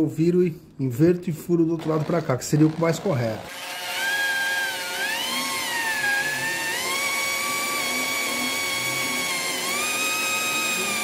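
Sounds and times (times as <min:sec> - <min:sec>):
electric drill whining: 0:01.8 - 0:11.0.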